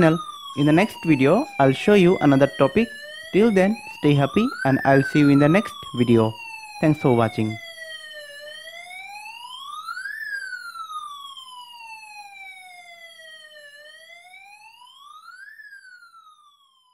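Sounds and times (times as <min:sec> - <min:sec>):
electronic siren wail: 0:00.0 - 0:16.9.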